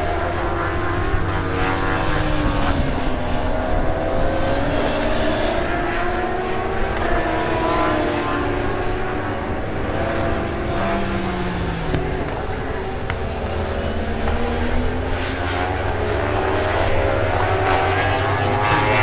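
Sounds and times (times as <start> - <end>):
racing motorcycle engines revving: 0.0 - 19.0.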